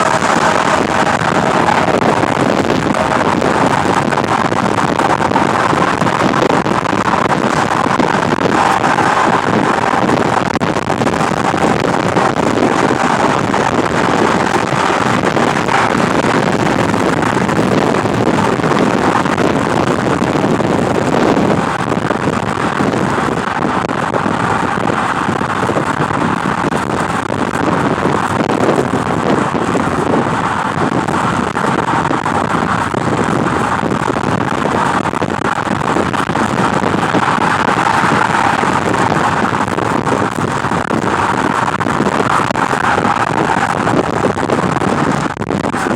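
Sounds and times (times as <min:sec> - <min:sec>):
road noise: 0:00.0 - 0:45.9
wind rushing over microphone: 0:00.0 - 0:45.9.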